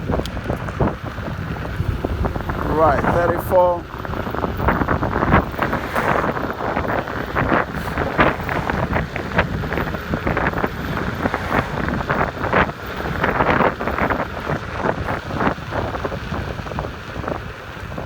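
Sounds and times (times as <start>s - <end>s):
road noise: 0.0s - 18.0s
wind rushing over microphone: 0.0s - 18.0s.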